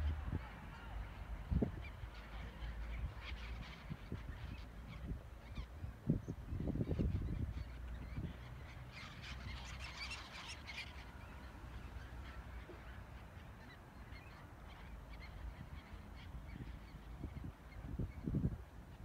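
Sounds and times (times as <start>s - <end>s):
flock of birds calling: 0.0s - 19.0s.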